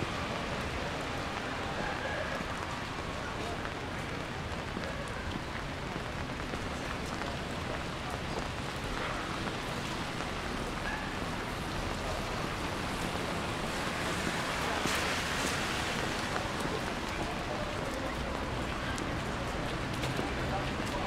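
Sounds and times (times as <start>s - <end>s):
rain on wet street: 0.0s - 21.0s.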